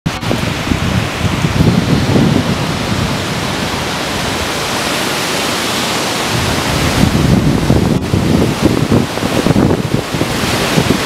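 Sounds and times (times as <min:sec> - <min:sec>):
hurricane wind and rain: 0:00.1 - 0:11.0
wind gusting on microphone: 0:00.1 - 0:11.0.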